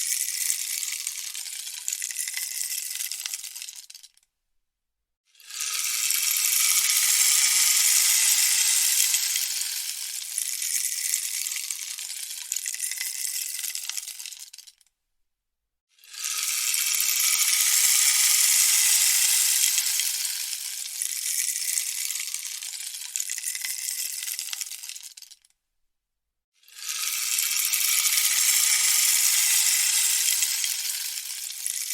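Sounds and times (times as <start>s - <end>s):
rainstick beads trickling: 0.0s - 4.2s, 5.5s - 14.8s, 16.1s - 25.5s, 26.7s - 31.9s.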